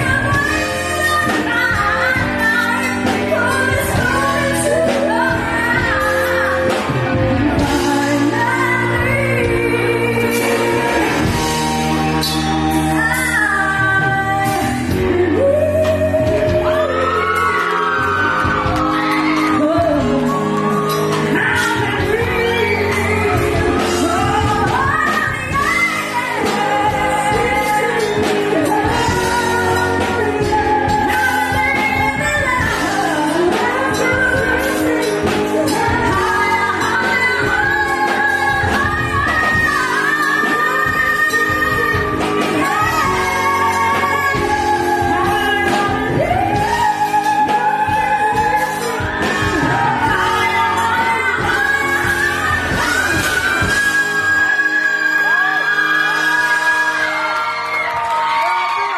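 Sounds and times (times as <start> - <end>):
instrumental accompaniment: 0.0 - 58.9
woman singing into a microphone: 0.0 - 58.9.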